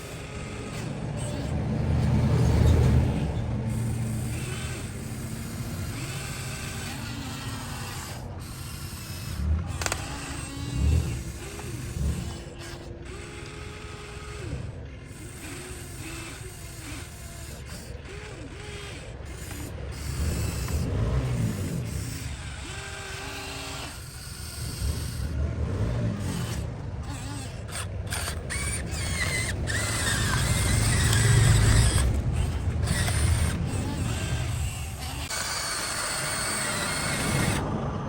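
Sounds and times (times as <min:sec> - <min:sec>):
small electric motors whining: 0:00.0 - 0:38.0.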